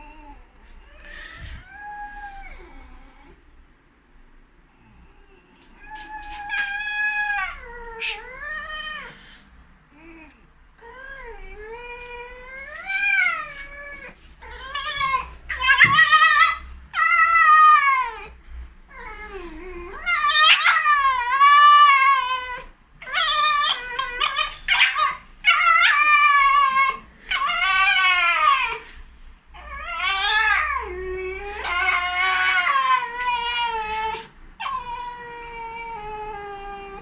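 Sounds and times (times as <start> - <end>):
fox whining calls: 0.0 - 3.3, 5.7 - 29.0, 29.6 - 37.0.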